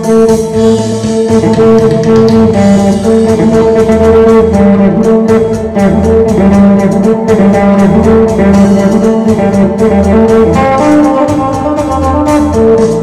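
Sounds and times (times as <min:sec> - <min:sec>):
amplified plucked lute melody: 0:00.0 - 0:13.0
bass line: 0:00.0 - 0:13.0
drone notes: 0:00.0 - 0:13.0
percussion beats: 0:00.0 - 0:13.0.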